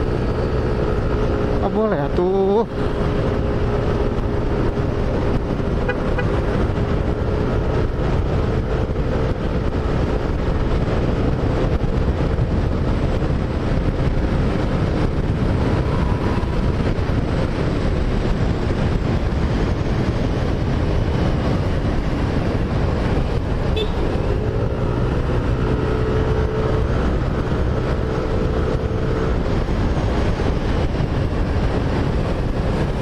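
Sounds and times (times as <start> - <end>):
motorcycle engine: 0.0 - 33.0
wind and road noise: 0.0 - 33.0.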